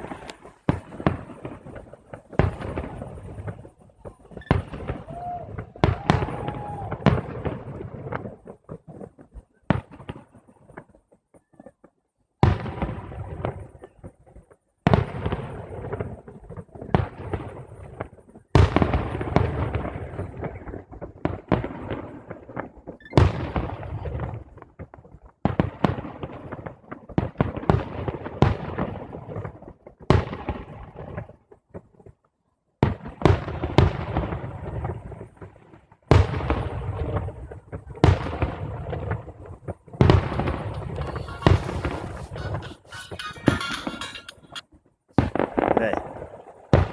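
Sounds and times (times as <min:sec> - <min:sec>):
fireworks bangs with crackling: 0:00.0 - 0:32.2, 0:32.8 - 0:46.9.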